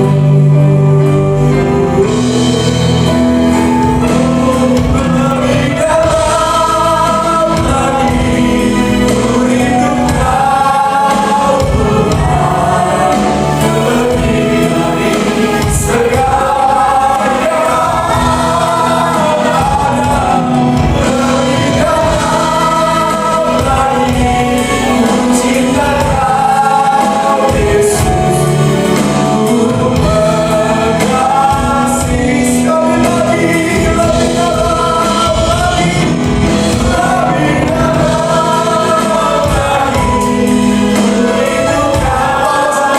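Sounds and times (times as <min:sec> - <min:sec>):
band with steady beat: 0:00.0 - 0:42.9
choir singing gospel: 0:00.0 - 0:42.9.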